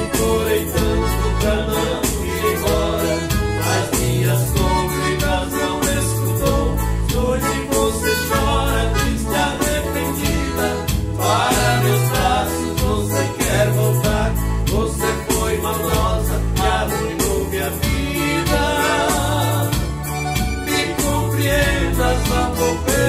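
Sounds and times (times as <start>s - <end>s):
accordion: 0.0s - 23.0s
acoustic guitar: 0.0s - 23.0s
bass pattern: 0.0s - 23.0s
keyboard: 0.0s - 23.0s.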